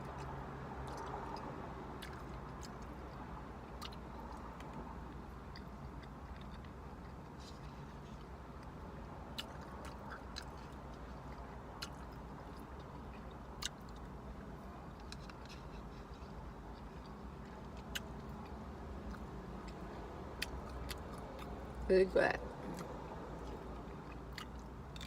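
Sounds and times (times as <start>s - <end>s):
person chewing food: 0.0s - 21.9s, 22.7s - 25.0s
low steady hum: 0.0s - 25.0s.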